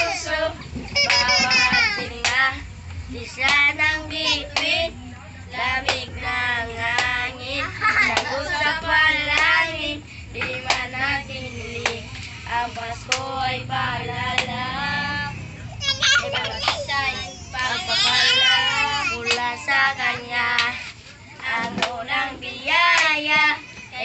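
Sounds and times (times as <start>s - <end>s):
children singing a carol: 0.0s - 24.0s.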